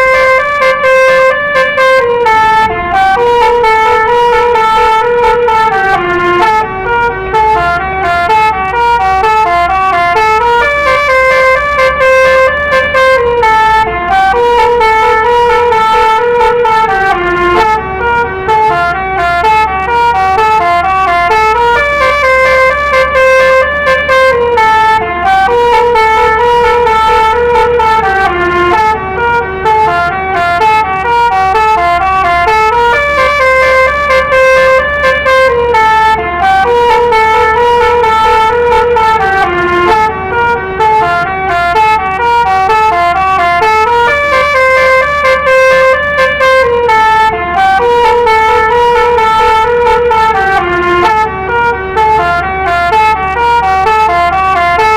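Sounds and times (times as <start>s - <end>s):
musical bus horn melody: 0.0s - 54.9s.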